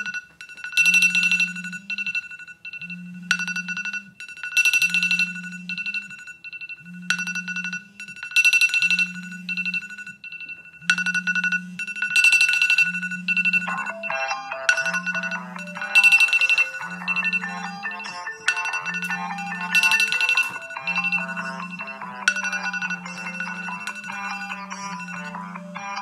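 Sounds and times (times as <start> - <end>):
phone alarms chiming: 0.0 - 26.0.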